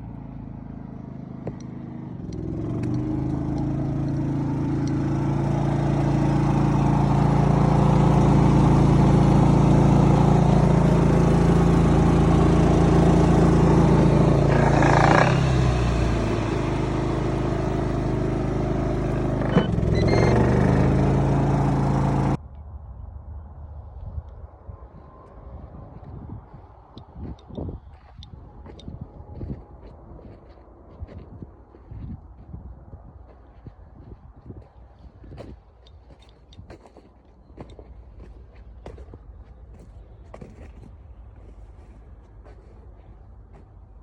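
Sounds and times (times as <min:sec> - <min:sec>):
diesel engine droning: 0:00.0 - 0:31.9, 0:34.7 - 0:44.0.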